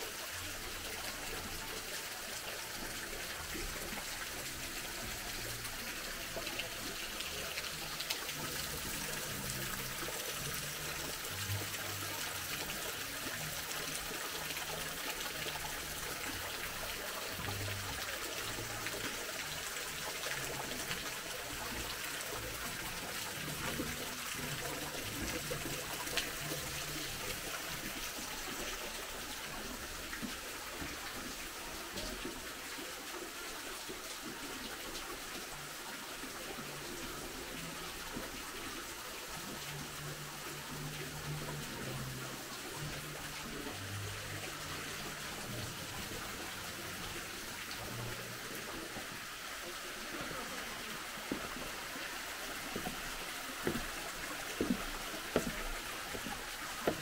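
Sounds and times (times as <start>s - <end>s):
water running: 0.0s - 57.0s.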